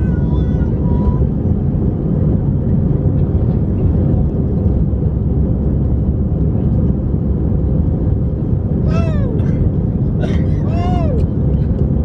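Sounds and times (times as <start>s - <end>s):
jet engines and airflow rushing: 0.0s - 12.0s
steady cabin hum: 0.0s - 12.0s.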